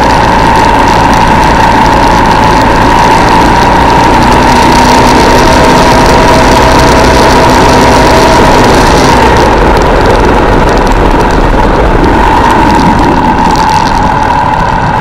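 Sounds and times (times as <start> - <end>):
motorcycle engine running loudly: 0.0 - 15.0.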